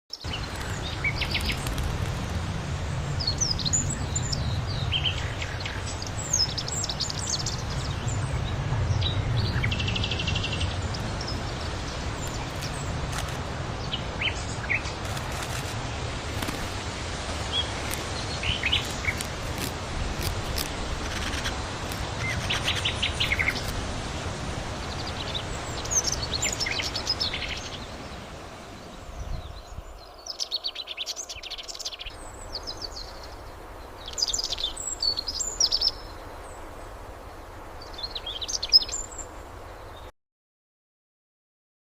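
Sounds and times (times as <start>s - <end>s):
birds chirping: 3.1s - 23.8s, 24.6s - 40.1s.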